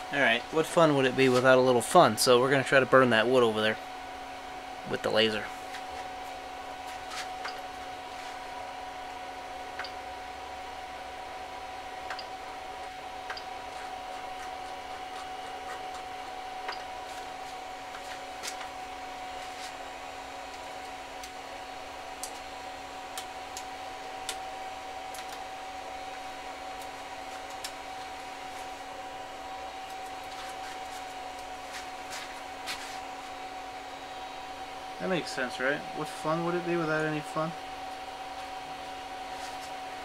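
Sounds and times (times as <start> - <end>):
cooling fans high whine: 0.0 - 40.0
laser engraver whirring: 0.0 - 40.0
low electronic hum: 0.0 - 40.0.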